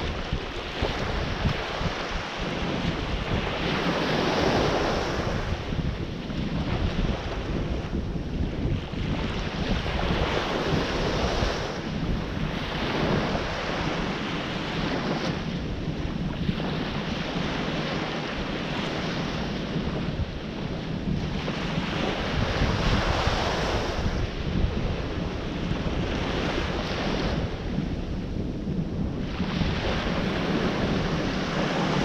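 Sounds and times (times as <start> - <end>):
waves breaking: 0.0 - 32.0
wind rumbling on microphone: 0.0 - 32.0.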